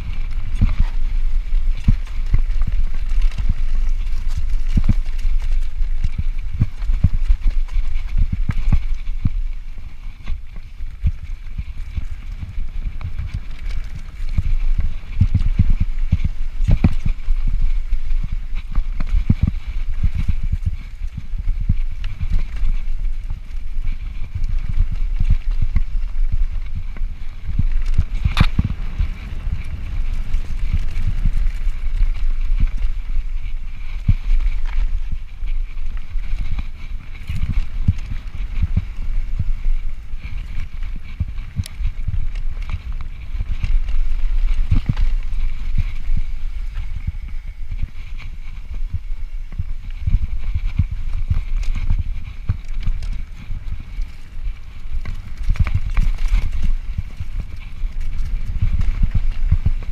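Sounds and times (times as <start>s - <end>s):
mountain bike rumbling over rough trail: 0.0s - 59.9s
wind on microphone: 0.0s - 59.9s.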